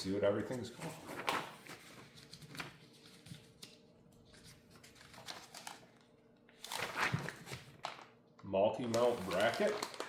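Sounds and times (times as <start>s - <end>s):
paper rustling: 0.2s - 6.0s, 6.6s - 8.1s, 8.8s - 10.0s.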